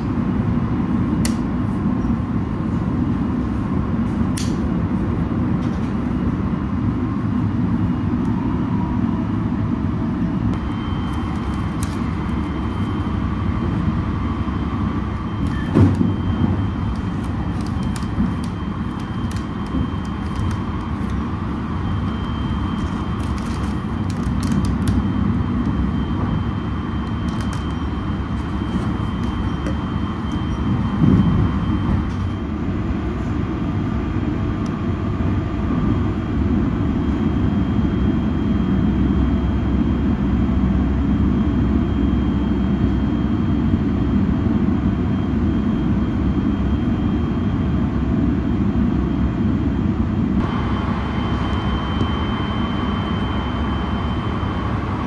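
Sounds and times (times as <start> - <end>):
train rumble inside carriage: 0.0 - 55.0.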